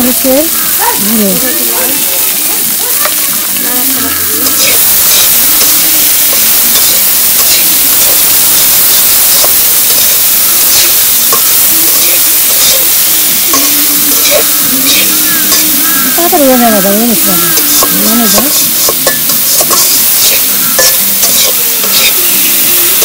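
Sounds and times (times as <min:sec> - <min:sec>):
vegetables sizzling in oil: 0:00.0 - 0:23.0
metal spatula scraping wok: 0:04.0 - 0:23.0.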